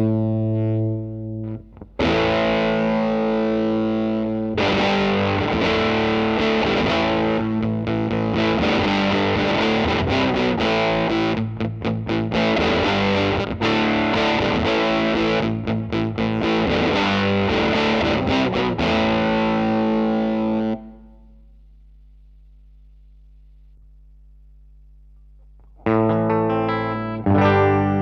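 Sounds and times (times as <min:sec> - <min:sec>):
distorted electric guitar: 0:00.0 - 0:21.6, 0:25.4 - 0:28.0.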